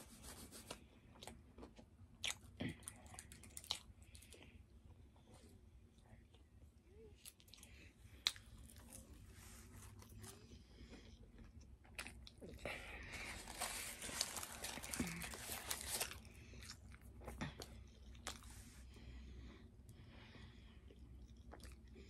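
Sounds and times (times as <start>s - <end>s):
chewing and crunching: 0.6s - 19.5s, 20.3s - 22.0s.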